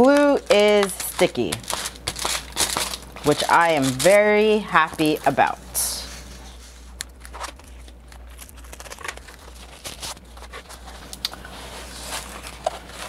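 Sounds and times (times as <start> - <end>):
plastic packaging crinkling: 0.0 - 5.6, 6.9 - 13.0.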